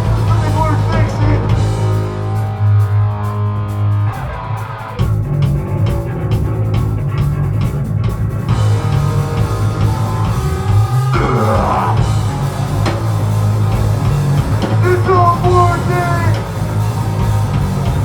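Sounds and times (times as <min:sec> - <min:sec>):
bass guitar: 0:00.0 - 0:18.0
distorted electric guitar: 0:00.0 - 0:18.0
drums: 0:00.0 - 0:18.0.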